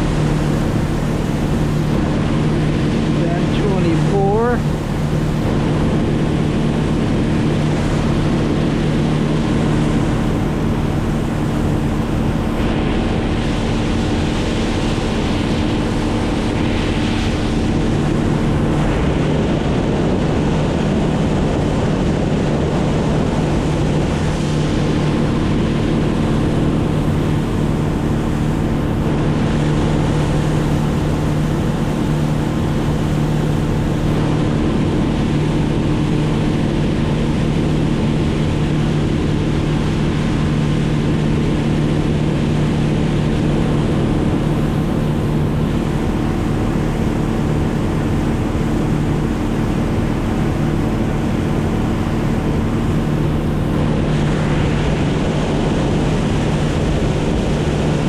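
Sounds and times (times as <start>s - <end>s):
motor droning: 0.0s - 58.0s.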